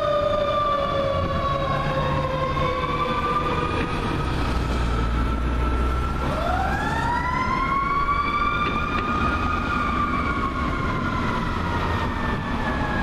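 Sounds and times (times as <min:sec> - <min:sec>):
steady siren tone: 0:00.0 - 0:13.0
traffic rumble: 0:00.0 - 0:13.0.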